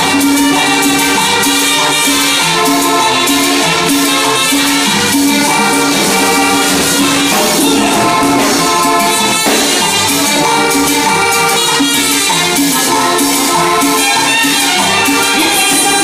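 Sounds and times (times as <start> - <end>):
button accordion: 0.0 - 16.0
drum percussion: 0.0 - 16.0
electric bass: 0.0 - 16.0
trumpets: 0.0 - 16.0.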